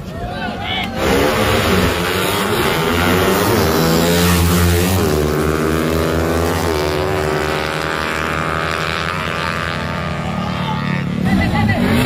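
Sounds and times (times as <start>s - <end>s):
motorcycle engine at full throttle: 1.0s - 12.0s.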